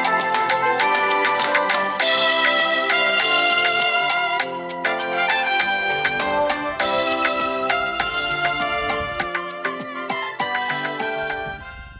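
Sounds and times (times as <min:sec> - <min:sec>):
percussion hits: 0:00.0 - 0:11.0
held chords: 0:00.0 - 0:11.6.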